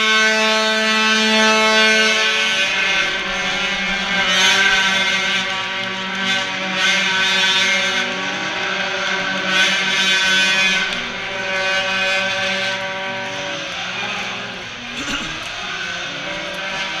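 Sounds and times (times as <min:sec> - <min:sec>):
crowd noise: 0:00.0 - 0:17.0.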